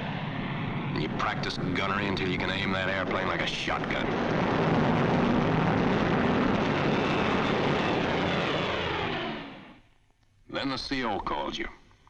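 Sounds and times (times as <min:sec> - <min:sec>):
propeller plane passing low: 0:00.0 - 0:09.8.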